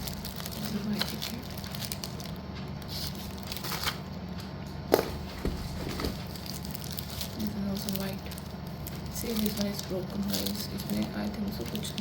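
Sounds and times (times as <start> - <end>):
packaging rustling and crinkling: 0.0 - 12.0
steady low hum: 0.0 - 12.0.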